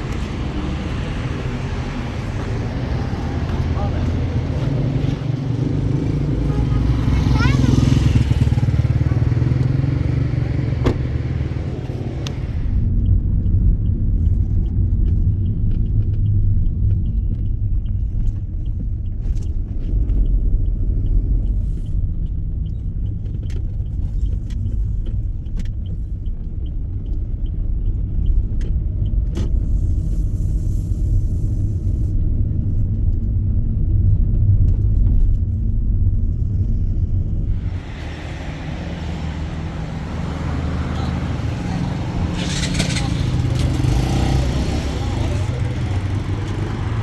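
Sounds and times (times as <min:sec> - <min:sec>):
car engine and road rumble: 0:00.0 - 0:47.0.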